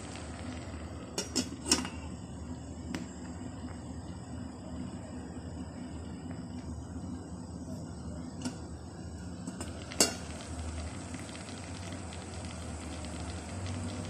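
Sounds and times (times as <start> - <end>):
crackling and bubbling food: 0.0 - 14.0.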